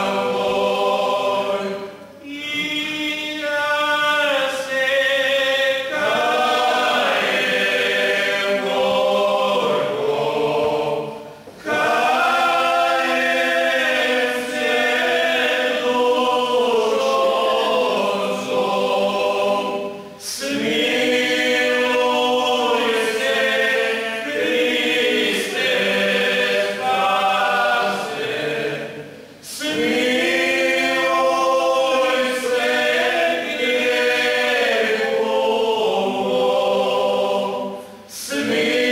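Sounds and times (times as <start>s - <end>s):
male choir singing a cappella: 0.0s - 38.9s.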